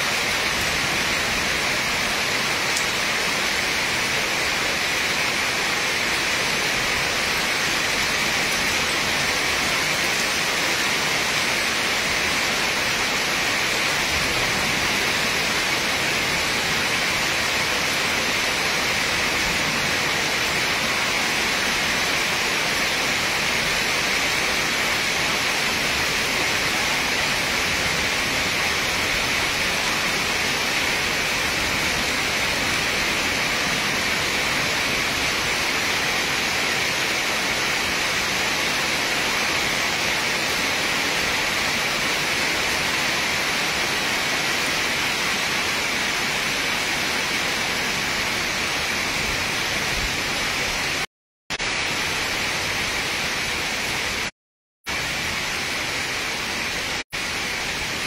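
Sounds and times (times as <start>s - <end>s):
heavy rain falling: 0.0s - 54.3s, 54.9s - 58.0s.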